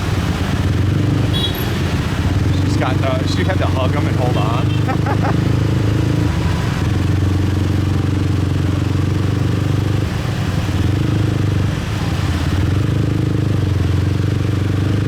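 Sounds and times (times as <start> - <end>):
motorbike engine running: 0.0 - 15.0
road and traffic noise: 0.0 - 15.0.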